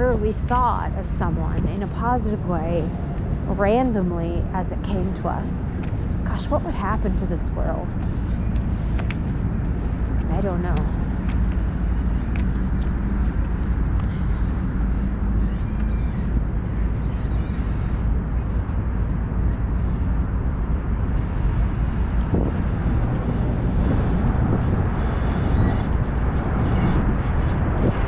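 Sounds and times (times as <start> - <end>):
city background rumble: 0.0 - 28.0
faint steady hum: 0.0 - 28.0
vehicle engines running: 0.0 - 28.0.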